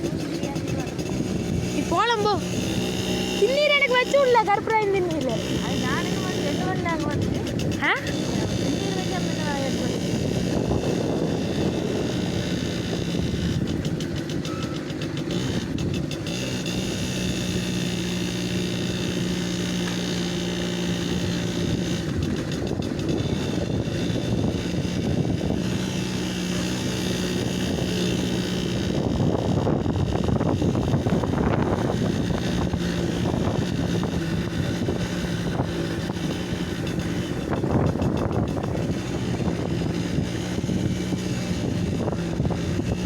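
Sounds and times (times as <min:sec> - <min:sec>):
moped engine running: 0:00.0 - 0:43.0
road and wind noise: 0:00.0 - 0:43.0.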